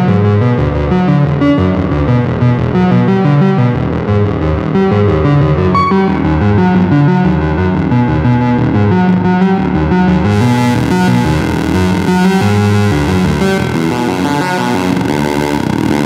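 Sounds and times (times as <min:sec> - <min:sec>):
analog synthesizer low sequence: 0:00.0 - 0:16.0.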